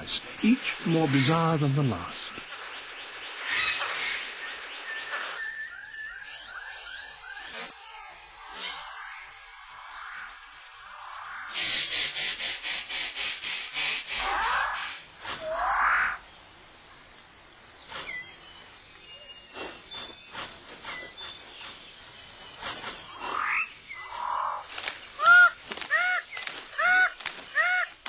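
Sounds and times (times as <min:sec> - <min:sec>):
loud repeated bird calls: 0:00.0 - 0:16.3, 0:17.6 - 0:28.0
birds calling: 0:00.0 - 0:28.0
high insect drone: 0:00.0 - 0:28.0.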